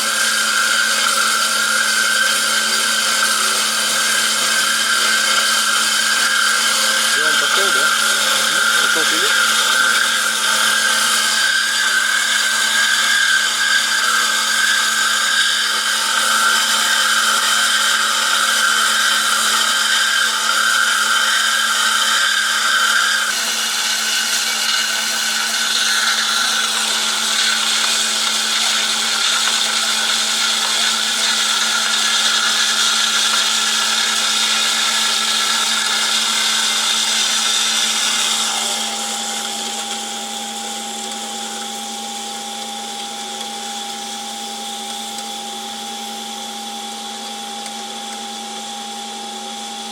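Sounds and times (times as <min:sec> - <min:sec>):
band saw running: 0:00.0 - 0:49.9.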